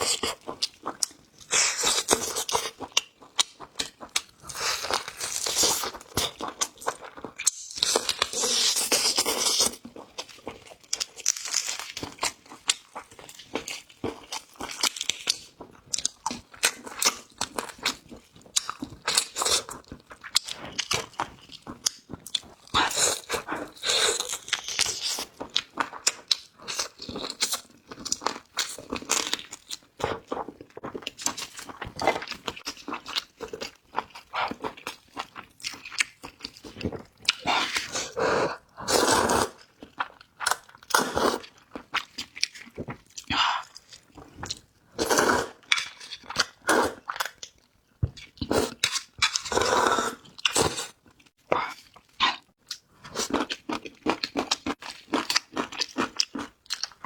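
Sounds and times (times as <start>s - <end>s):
close chewing and crunching: 0.0s - 57.0s.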